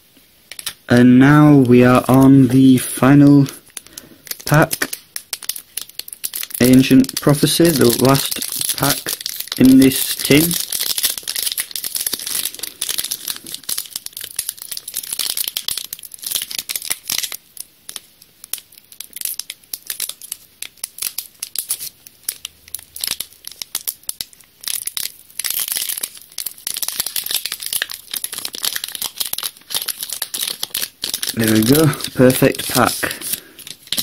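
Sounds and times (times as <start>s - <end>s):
foil wrapper crinkling and tearing: 3.6s - 34.0s.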